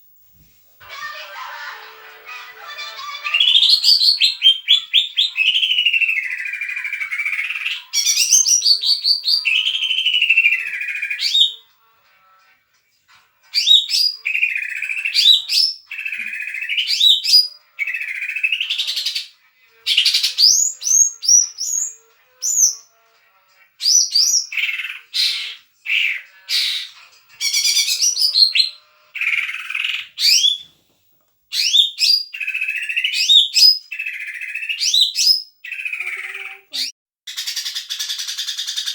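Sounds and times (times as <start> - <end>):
bird singing whistles and chatter: 3.4 - 11.7, 13.5 - 19.3, 19.9 - 23.0, 23.8 - 30.7, 31.5 - 38.9.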